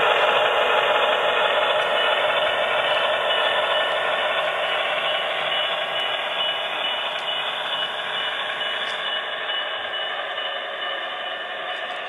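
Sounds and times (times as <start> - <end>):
model locomotive diesel sound: 0.0 - 12.0.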